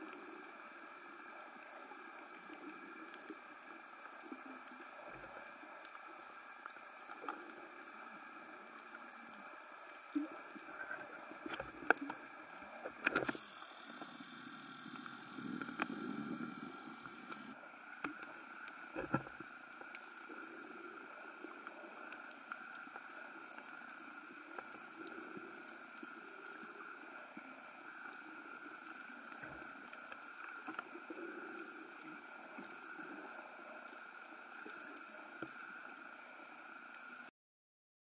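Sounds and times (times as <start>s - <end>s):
faint underwater clicks: 0.0s - 37.3s
faint underwater hum: 0.0s - 37.3s.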